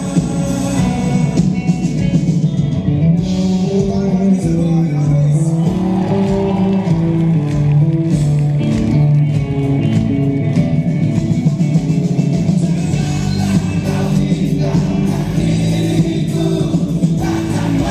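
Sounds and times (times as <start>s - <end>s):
live rock band playing: 0.0s - 17.9s.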